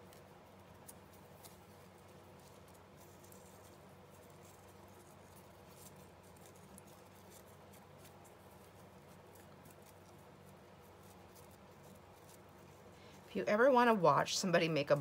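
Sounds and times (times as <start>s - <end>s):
ribbon rustling: 0.0s - 13.4s
faint room hum: 0.0s - 15.0s.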